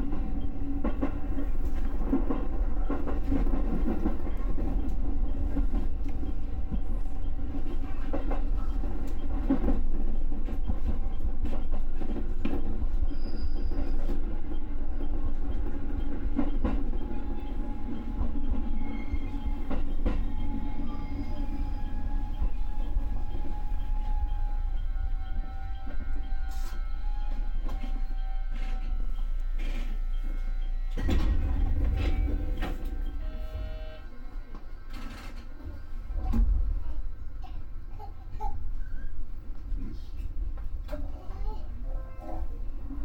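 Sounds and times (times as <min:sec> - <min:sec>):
train rumbling on track: 0:00.0 - 0:43.0.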